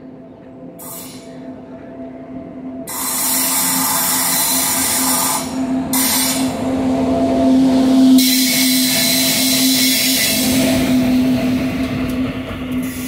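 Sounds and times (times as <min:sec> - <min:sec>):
locomotive whine and hum: 0:00.0 - 0:13.0.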